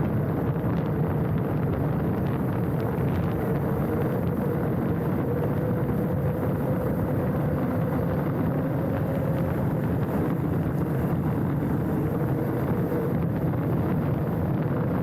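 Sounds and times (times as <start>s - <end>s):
bike tyres rumbling on dirt: 0.0s - 15.0s
faint hum: 0.0s - 15.0s
wind buffeting microphone: 0.0s - 15.0s.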